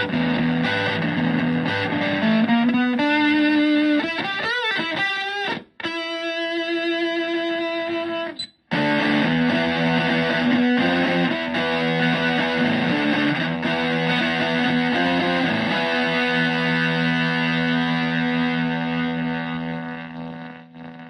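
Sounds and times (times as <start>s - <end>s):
fuzz electric guitar: 0.0s - 21.0s.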